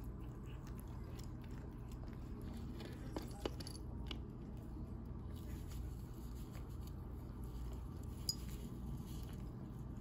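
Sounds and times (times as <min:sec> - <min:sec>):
cats chewing: 0:00.0 - 0:10.0.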